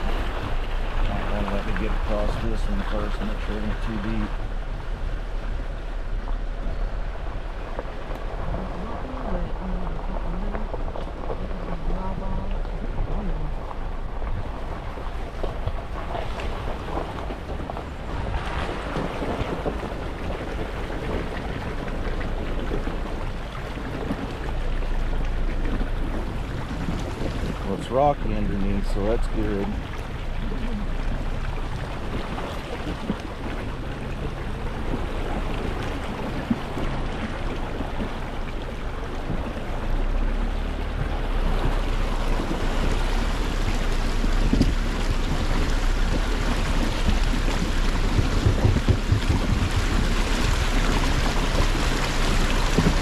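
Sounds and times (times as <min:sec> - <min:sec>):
vehicle engine rumble: 0:00.0 - 0:53.0
water rushing and splashing: 0:00.0 - 0:53.0
wind noise on microphone: 0:00.0 - 0:53.0.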